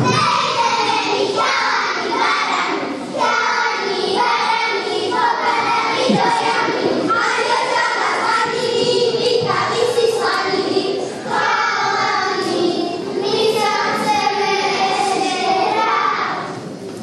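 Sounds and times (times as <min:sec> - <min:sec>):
children singing a folk song: 0:00.0 - 0:16.8.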